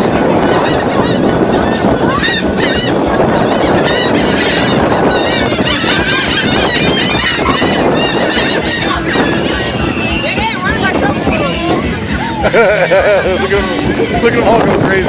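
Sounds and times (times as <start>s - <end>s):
flock of birds calling: 0.0s - 14.2s.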